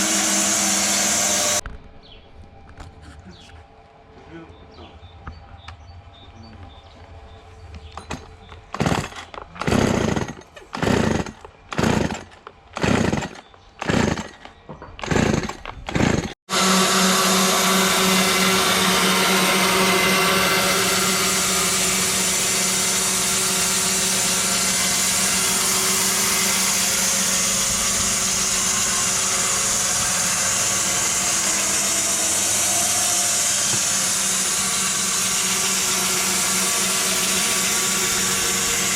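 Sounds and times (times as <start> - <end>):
hand saw cutting wood: 0.0 - 1.6, 8.7 - 38.9
power saw running: 0.0 - 1.6, 8.0 - 38.9.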